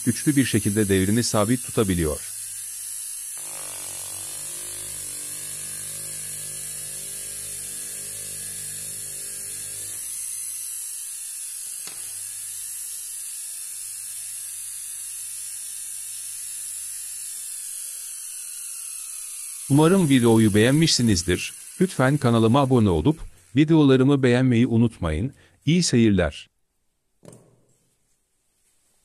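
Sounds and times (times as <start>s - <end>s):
electric motor running: 0.0s - 23.7s.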